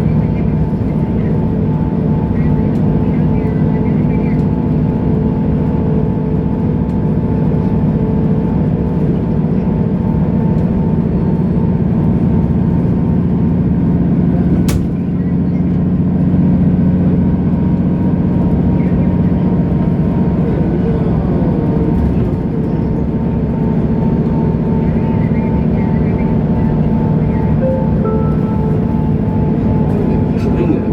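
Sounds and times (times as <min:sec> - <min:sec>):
bus engine running: 0:00.0 - 0:30.9.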